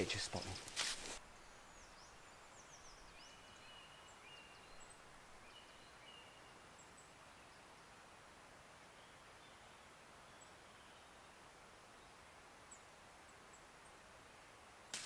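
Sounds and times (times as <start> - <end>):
background hiss: 0.0 - 15.0
distant birdsong chirps: 0.0 - 15.0.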